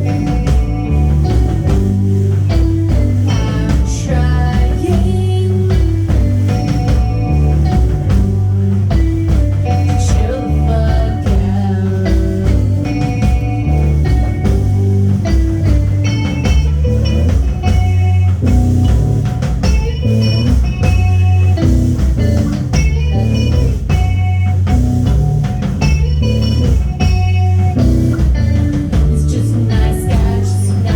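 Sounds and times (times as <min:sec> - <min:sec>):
rock band playing live: 0:00.0 - 0:30.9.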